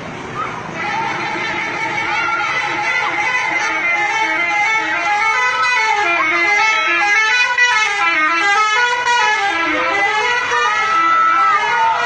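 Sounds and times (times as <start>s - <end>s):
multi-tone bus horn tune: 0.7s - 12.0s.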